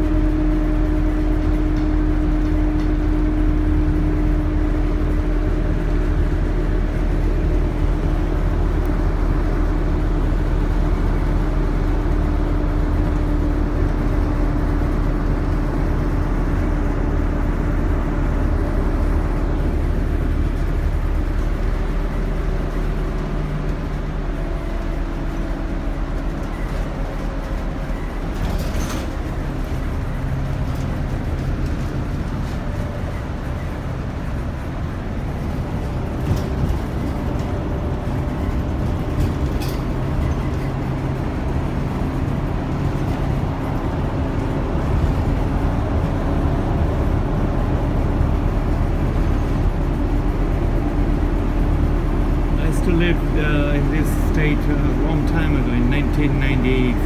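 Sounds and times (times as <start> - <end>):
bus engine drone: 0.0 - 57.0
road noise: 0.0 - 57.0.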